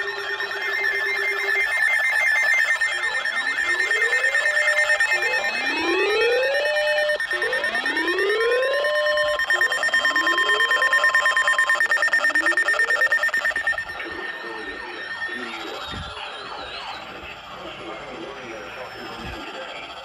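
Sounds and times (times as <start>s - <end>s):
electronic alarm whooping: 0.0s - 20.0s
faint warbling tone: 0.0s - 20.0s
steady pulsing high tones: 0.0s - 20.0s.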